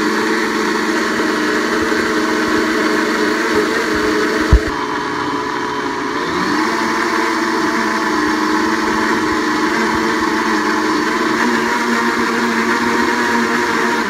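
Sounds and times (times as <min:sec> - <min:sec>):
blender running at high speed: 0:00.0 - 0:14.0.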